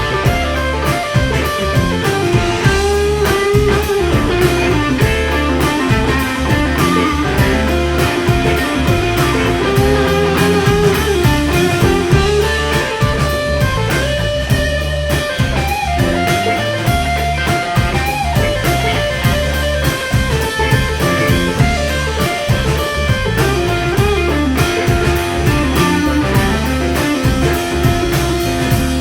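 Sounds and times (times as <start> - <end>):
bass: 0.0 - 29.0
electric guitar lead: 0.0 - 29.0
steady drum beat: 0.0 - 29.0.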